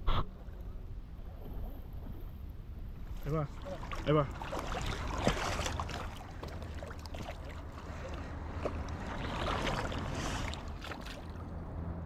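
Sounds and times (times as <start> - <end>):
river water running: 0.1 - 12.0.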